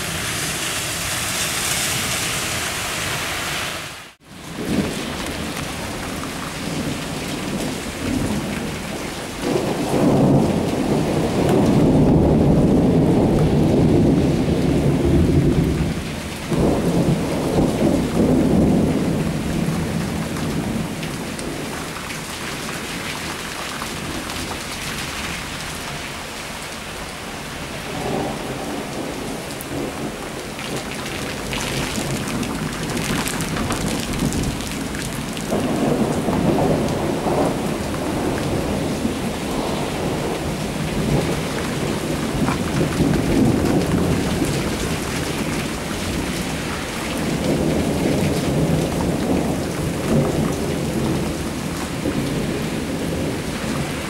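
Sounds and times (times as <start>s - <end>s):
rain falling: 0.0s - 54.0s
thunder rolling: 4.4s - 25.7s, 27.7s - 54.0s.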